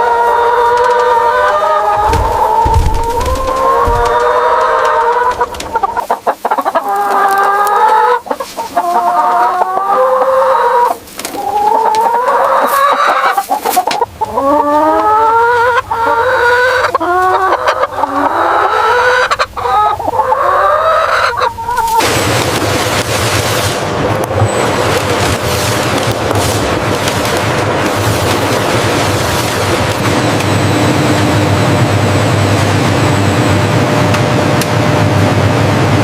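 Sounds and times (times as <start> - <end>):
chickens clucking: 0.0 - 22.7, 24.6 - 31.3.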